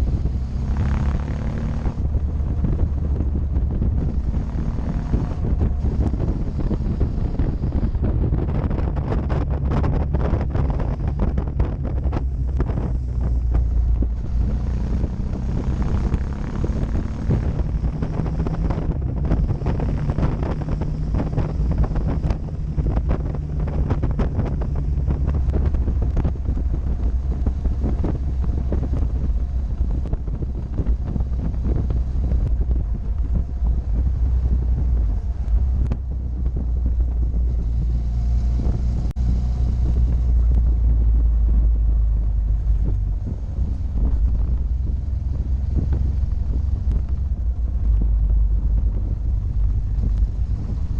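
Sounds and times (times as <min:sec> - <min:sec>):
motorcycle engine running: 0:00.0 - 0:50.9
wind buffeting microphone: 0:00.0 - 0:50.9.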